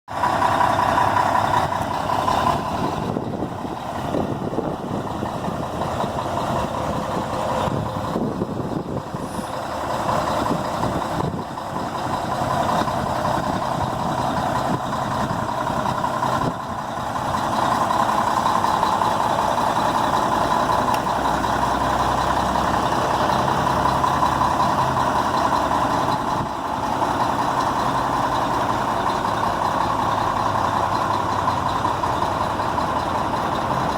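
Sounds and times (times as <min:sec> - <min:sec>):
truck diesel engine running: 0:00.1 - 0:33.9.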